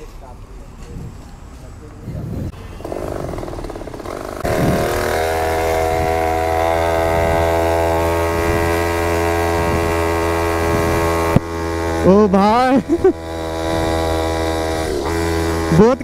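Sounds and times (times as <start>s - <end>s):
two-stroke mini bike engine: 2.5s - 16.0s.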